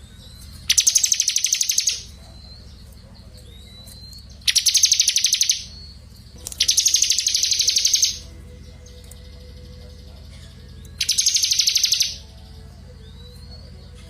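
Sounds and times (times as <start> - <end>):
songbird trilling: 0.0 - 14.0.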